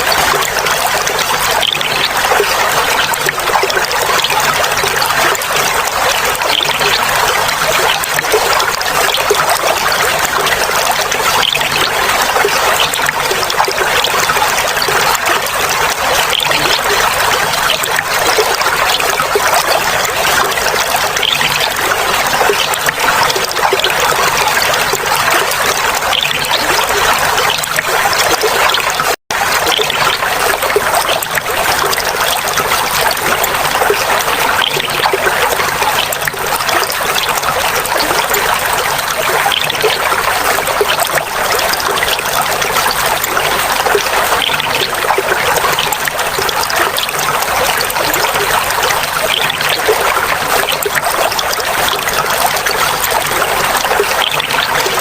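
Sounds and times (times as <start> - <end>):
running water babbling: 0.0 - 55.0.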